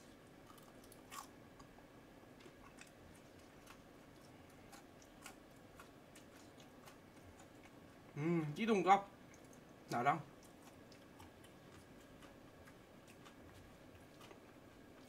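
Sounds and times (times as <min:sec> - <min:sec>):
low room hiss: 0:00.0 - 0:15.0
soft wet chewing: 0:00.0 - 0:15.0.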